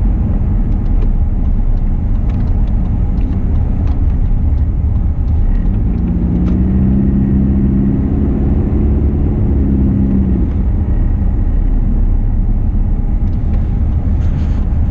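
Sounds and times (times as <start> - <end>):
car cabin road and engine rumble: 0.0 - 14.9
droning hum: 0.0 - 14.9.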